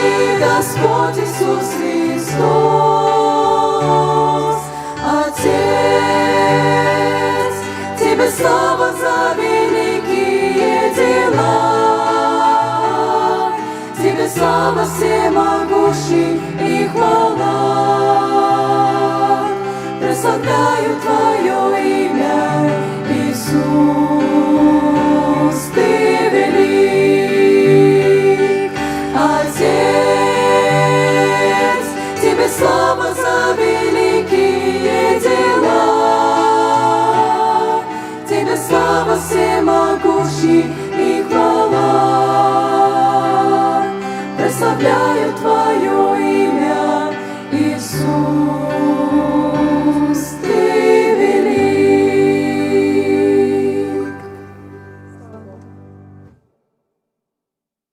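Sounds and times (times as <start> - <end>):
women singing in harmony: 0.0 - 55.2.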